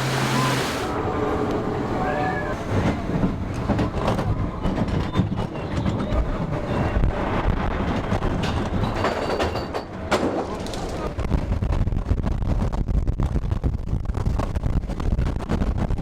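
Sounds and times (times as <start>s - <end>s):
ride vehicle rumbling and rattling: 0.0s - 16.0s.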